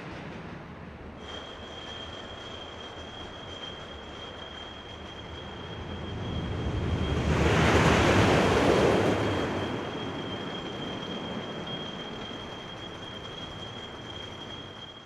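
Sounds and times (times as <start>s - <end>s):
roller coaster train rumbling: 0.0s - 15.0s.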